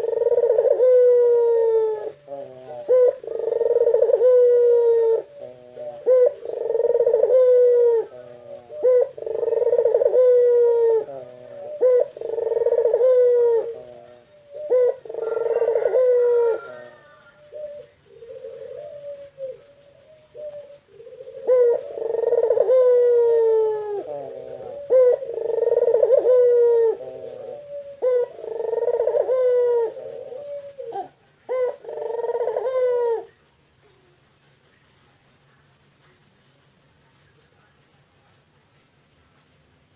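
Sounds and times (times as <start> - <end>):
dove cooing: 0.0 - 34.2.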